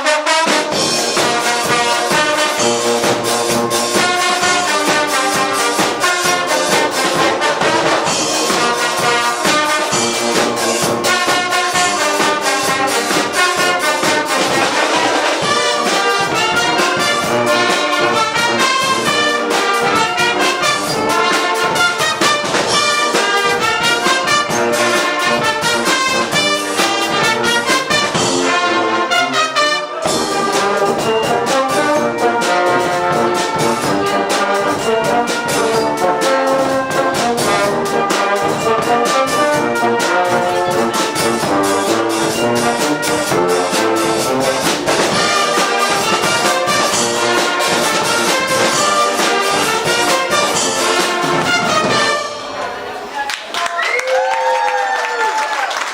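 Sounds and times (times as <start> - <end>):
drum beats: 0.0 - 53.2
brass band playing: 0.0 - 53.6.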